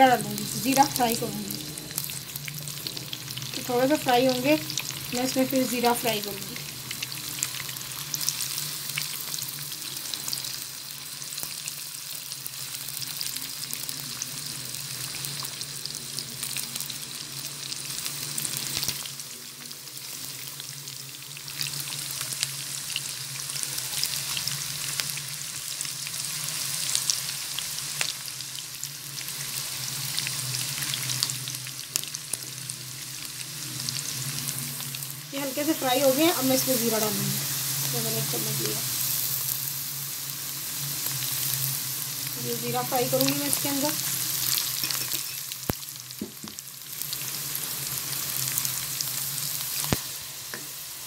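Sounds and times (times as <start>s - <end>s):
onions sizzling in hot oil: 0.0s - 51.0s.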